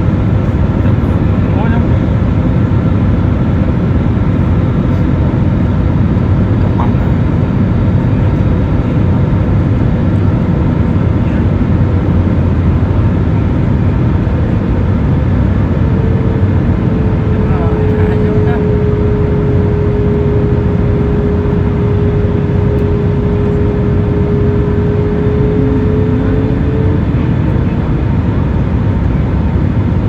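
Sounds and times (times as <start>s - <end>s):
airliner cabin drone: 0.0s - 30.0s.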